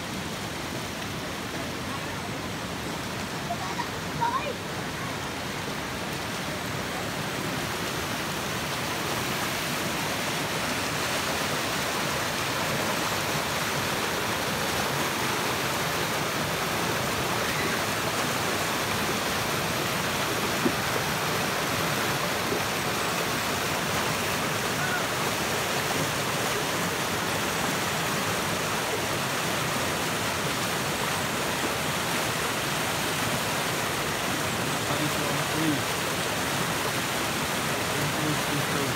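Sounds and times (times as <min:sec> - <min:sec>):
stream rapids rushing: 0:00.0 - 0:38.9.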